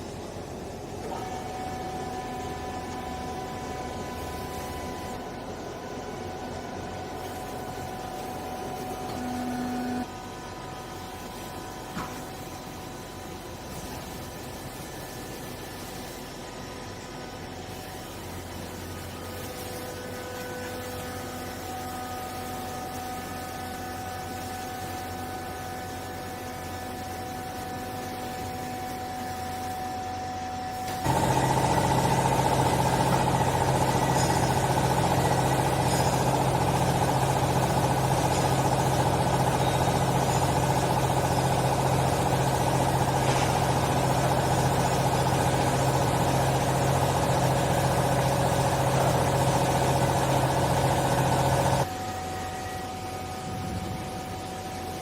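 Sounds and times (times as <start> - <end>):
hydraulic power unit humming: 0.0 - 55.0.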